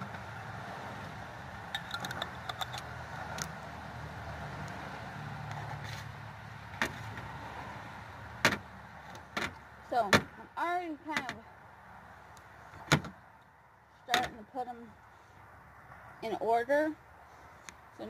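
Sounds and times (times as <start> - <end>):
vehicle engine rumbling: 0.0 - 16.4.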